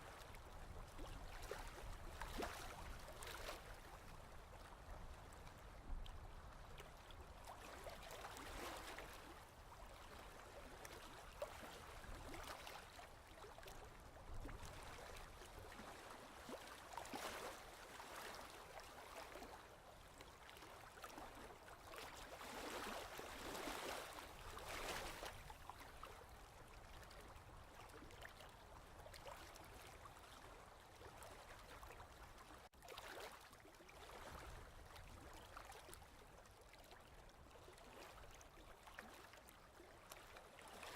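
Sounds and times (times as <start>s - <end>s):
faint ocean waves: 0.0s - 40.9s.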